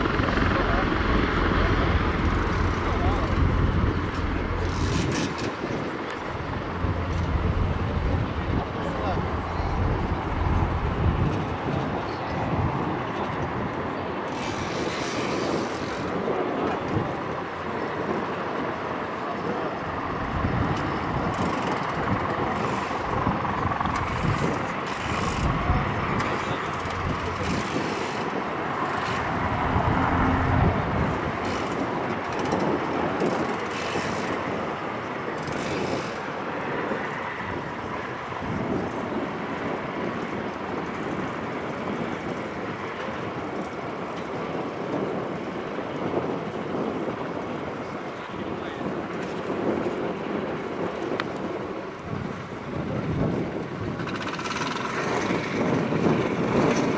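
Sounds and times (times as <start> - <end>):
helicopter rotor and turbine noise: 0.0 - 56.9
wind noise on microphone: 0.0 - 56.9.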